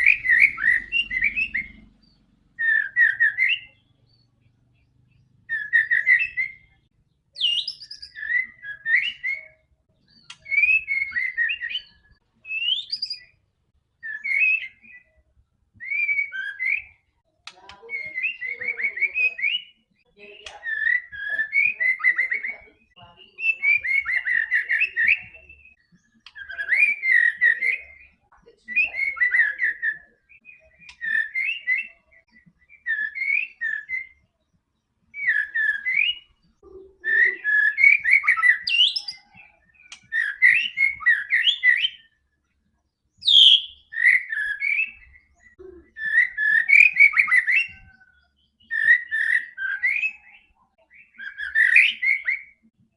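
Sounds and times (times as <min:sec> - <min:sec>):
bird whistling song: 0:00.0 - 0:04.4, 0:05.1 - 0:13.4, 0:14.0 - 0:34.4, 0:35.1 - 0:42.3, 0:43.1 - 0:52.8.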